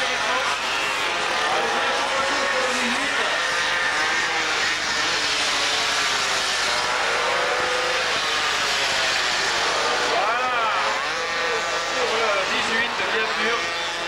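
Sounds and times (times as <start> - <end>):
two-stroke mopeds racing past: 0.0 - 14.0.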